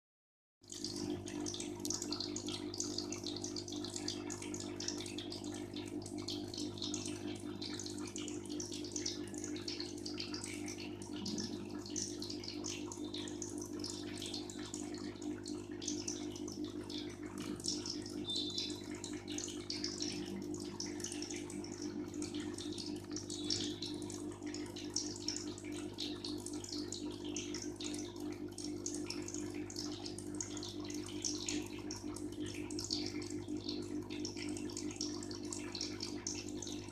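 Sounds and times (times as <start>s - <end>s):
water trickling and bubbling: 0.6s - 36.9s
low electric hum: 0.7s - 36.9s.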